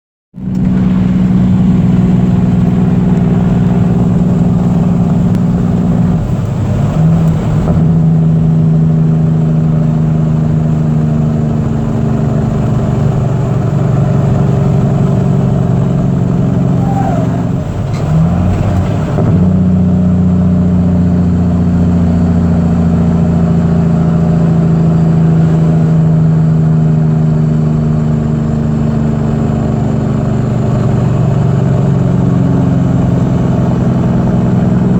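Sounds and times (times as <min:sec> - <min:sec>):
diesel engine running steadily: 0:00.4 - 0:34.9.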